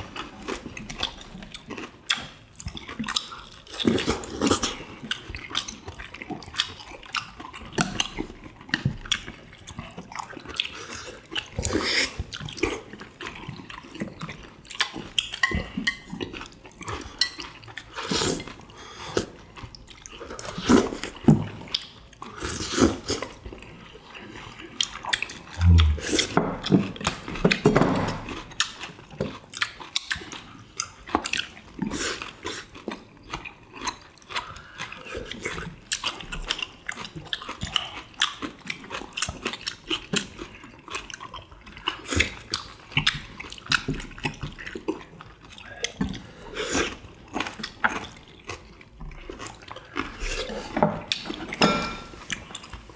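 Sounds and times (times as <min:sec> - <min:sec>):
people slurping and chewing: 0:00.0 - 0:52.9.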